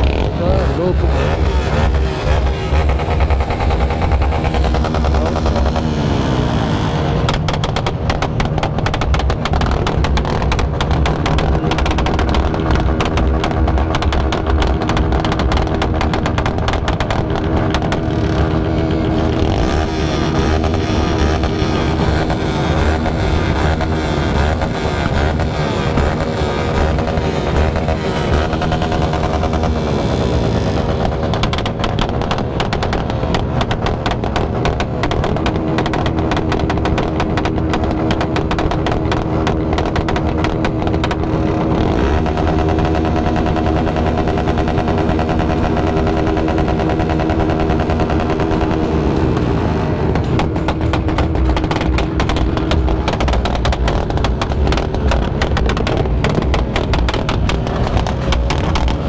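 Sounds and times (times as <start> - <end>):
exhaust crackling pops: 0.0 - 59.0
motorcycle engines revving: 0.0 - 59.0.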